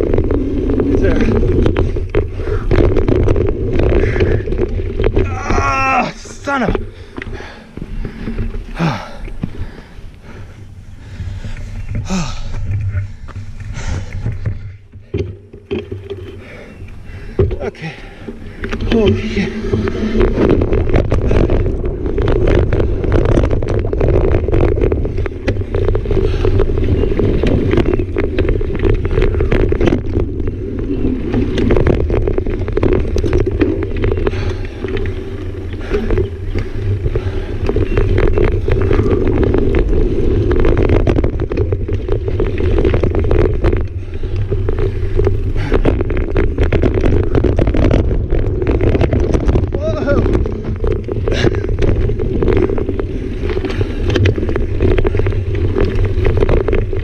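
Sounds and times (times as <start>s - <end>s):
bike rattles and clicks: 0.0s - 57.0s
tyre noise on dirt: 0.0s - 57.0s
wind rumble on microphone: 0.0s - 57.0s.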